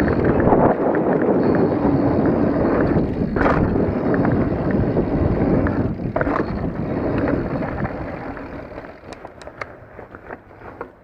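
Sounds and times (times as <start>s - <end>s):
wind on microphone: 0.0s - 9.4s
bike clicks and rattles: 0.0s - 11.0s
bike rolling over dirt: 0.0s - 11.0s.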